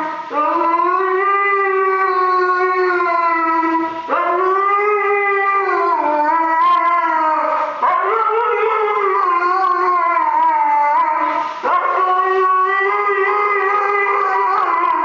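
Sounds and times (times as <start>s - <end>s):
dog howling: 0.0s - 15.0s.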